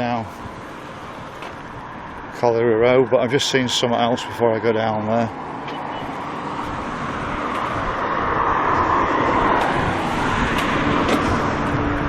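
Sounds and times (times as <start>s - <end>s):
car passing: 0.0s - 12.0s
steady engine hum: 0.0s - 12.0s.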